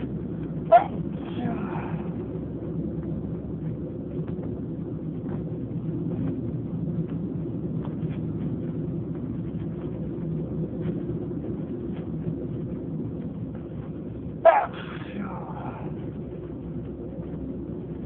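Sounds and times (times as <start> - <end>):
train rumble inside carriage: 0.0 - 18.0.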